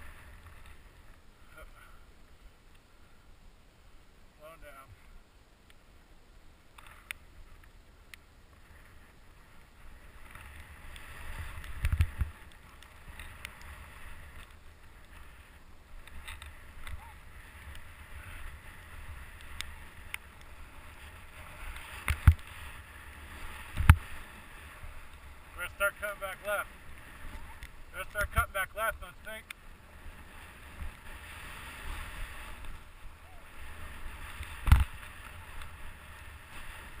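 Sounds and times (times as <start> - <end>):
skis sliding through powder snow: 0.0 - 1.7, 7.2 - 37.0.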